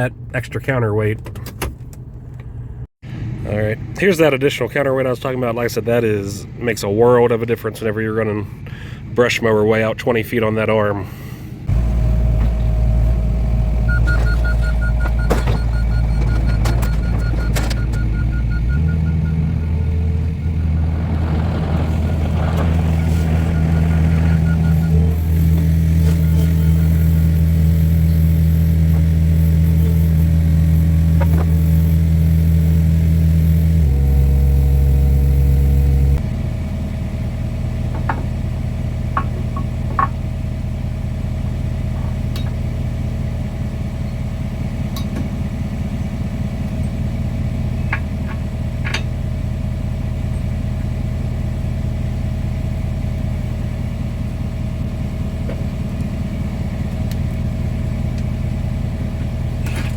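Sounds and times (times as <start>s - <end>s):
excavator diesel engine humming: 11.2s - 59.9s.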